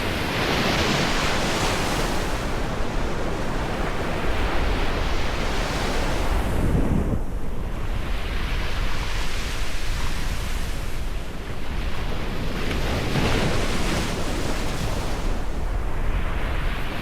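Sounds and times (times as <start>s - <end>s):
ocean waves breaking: 0.0s - 17.0s
wind rumble on microphone: 0.0s - 17.0s.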